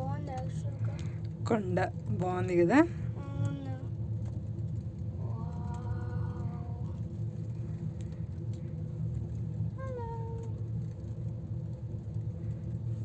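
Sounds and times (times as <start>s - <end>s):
gondola cabin rumble and hum: 0.0s - 13.0s.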